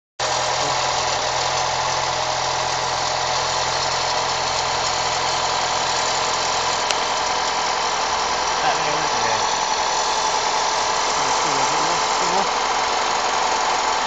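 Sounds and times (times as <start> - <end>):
car engine idling: 0.2 - 14.0.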